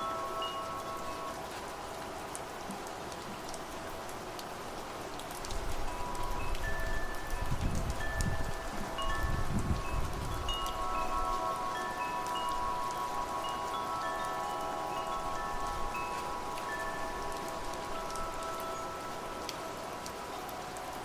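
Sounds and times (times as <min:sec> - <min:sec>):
wind chimes ringing: 0:00.0 - 0:02.7, 0:05.8 - 0:21.0
rain hissing: 0:00.0 - 0:21.0.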